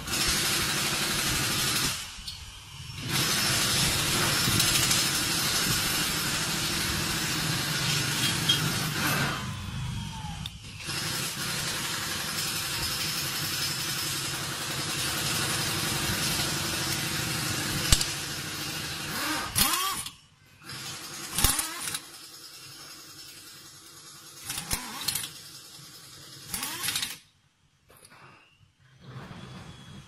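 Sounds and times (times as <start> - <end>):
pneumatic impact wrench rattling: 0.0 - 27.3.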